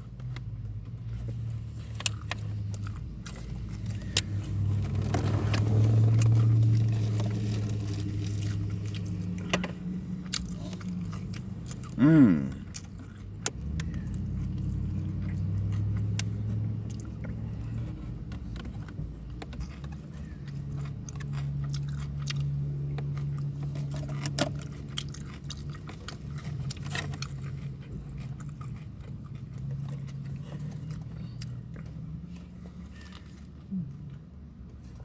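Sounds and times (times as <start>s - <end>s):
person chewing a sandwich: 0.0s - 35.0s.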